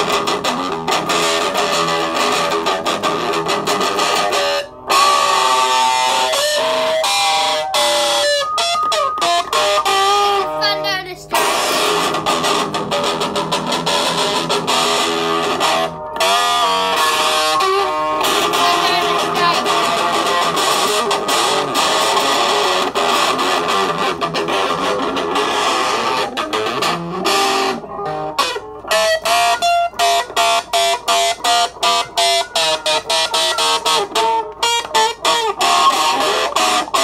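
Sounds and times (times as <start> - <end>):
electric guitar rock riff: 0.0 - 37.0.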